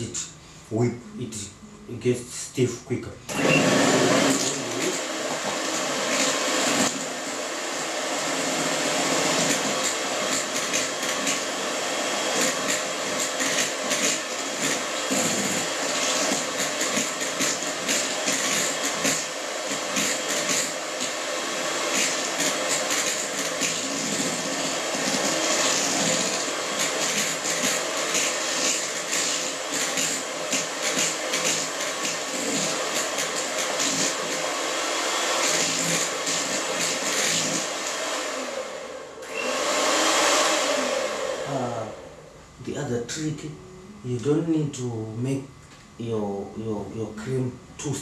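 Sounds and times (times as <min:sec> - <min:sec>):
electric hand mixer whirring: 0:03.3 - 0:42.4.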